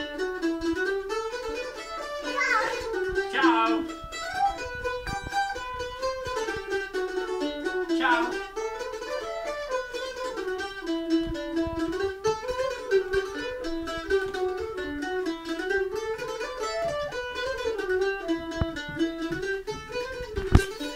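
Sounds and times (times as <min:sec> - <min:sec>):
plucked string instrument: 0:00.0 - 0:20.9.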